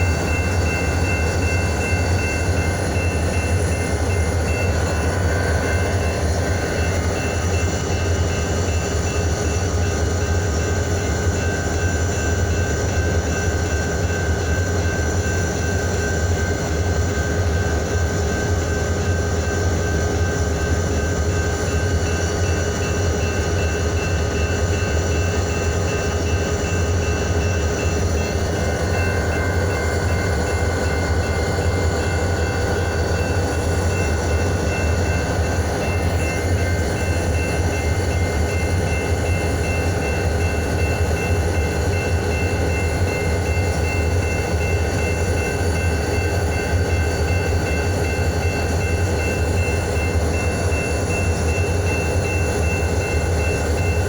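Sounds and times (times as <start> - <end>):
diesel locomotive rumble: 0.0 - 54.0.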